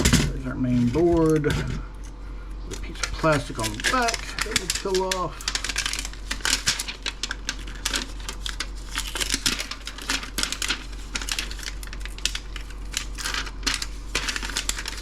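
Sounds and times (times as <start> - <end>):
plastic sheet peeling crackles: 2.7 - 15.0.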